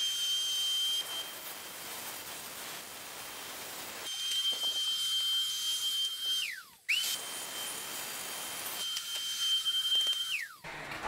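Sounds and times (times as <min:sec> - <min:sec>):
dust extraction hiss: 0:00.0 - 0:10.5.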